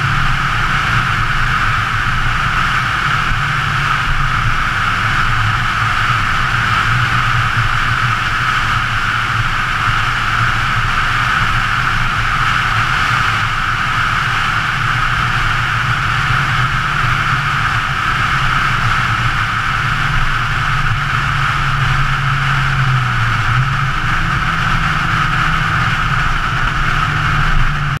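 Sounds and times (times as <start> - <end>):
car engine humming: 0.0 - 28.0.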